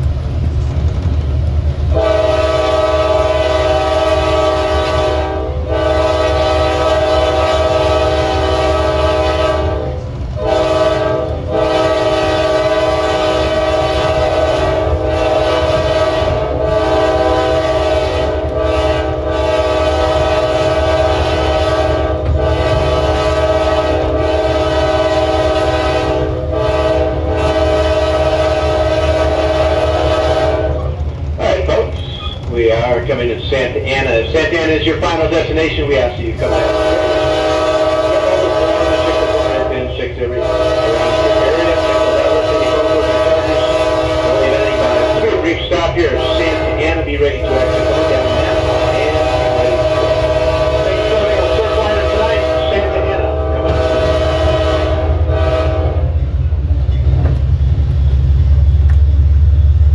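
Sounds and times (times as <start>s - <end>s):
moving train rumble: 0.0s - 59.9s
train air horn blasts: 1.9s - 33.0s, 34.4s - 56.3s.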